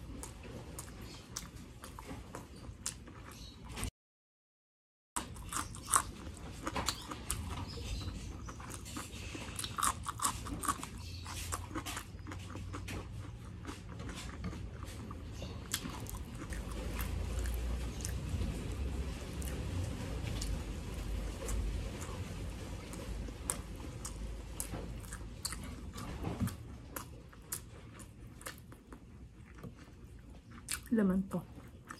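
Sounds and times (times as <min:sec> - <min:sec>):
chewing and crunching food: 0:00.0 - 0:03.9, 0:05.2 - 0:31.9.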